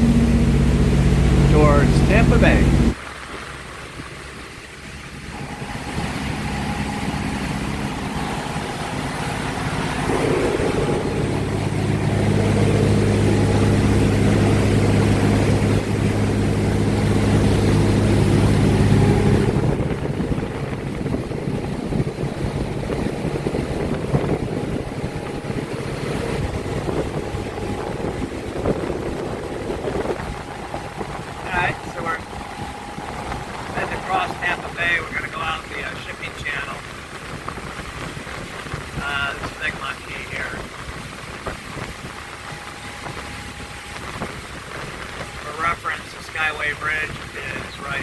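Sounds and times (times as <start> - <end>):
motorboat engine: 0.0 - 48.0
water noise: 0.0 - 48.0
wind: 0.0 - 48.0.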